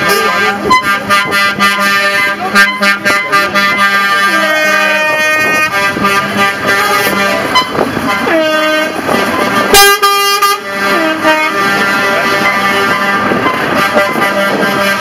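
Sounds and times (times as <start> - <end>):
heavy truck engine running: 0.0 - 15.0
truck air horns blowing: 0.0 - 15.0.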